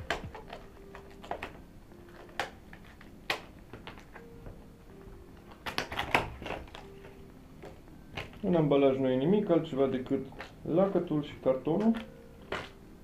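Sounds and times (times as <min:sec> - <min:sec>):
plastic packaging crackling: 0:00.0 - 0:04.4, 0:05.4 - 0:13.0.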